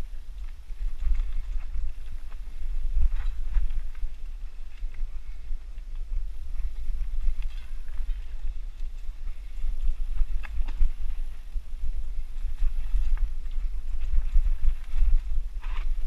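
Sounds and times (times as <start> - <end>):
wind rumble on microphone: 0.0 - 16.0
bike clicks and rattles: 0.3 - 16.0.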